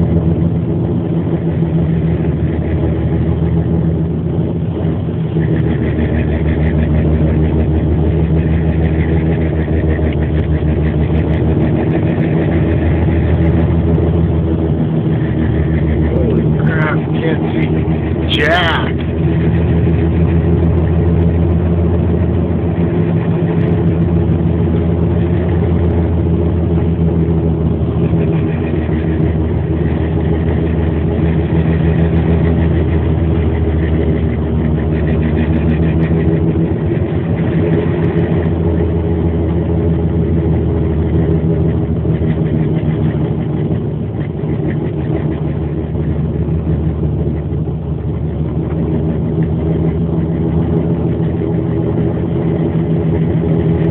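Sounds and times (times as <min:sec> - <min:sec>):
car engine hum: 0:00.0 - 0:53.9.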